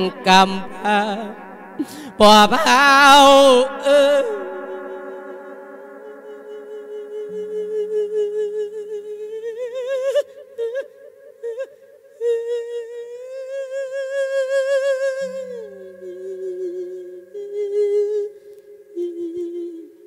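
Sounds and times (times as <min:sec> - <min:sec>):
man chanting into a microphone: 0:00.0 - 0:11.6, 0:12.2 - 0:18.4.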